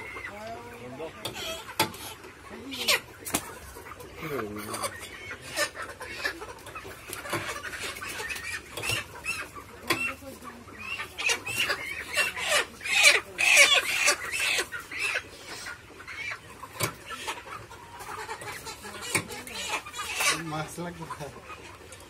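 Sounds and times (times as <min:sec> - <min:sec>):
hens calling: 0:00.0 - 0:22.0.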